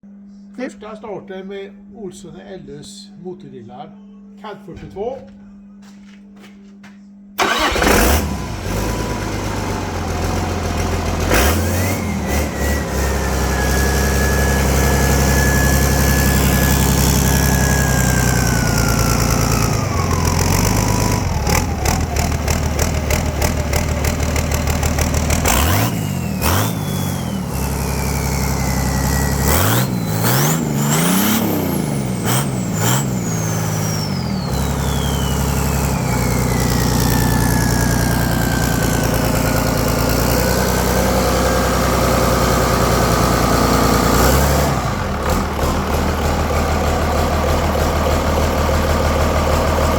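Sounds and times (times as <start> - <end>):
diesel engine running and revving: 7.4 - 49.9.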